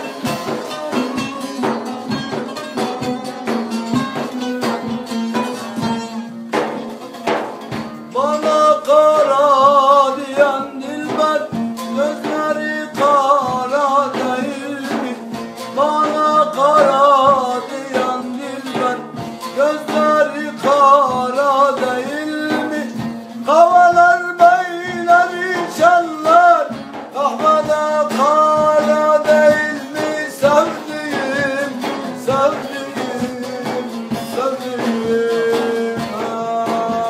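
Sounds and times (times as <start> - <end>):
person singing: 0.0 - 6.8, 8.1 - 37.0
drum: 0.0 - 37.0
plucked string instrument: 0.0 - 37.0.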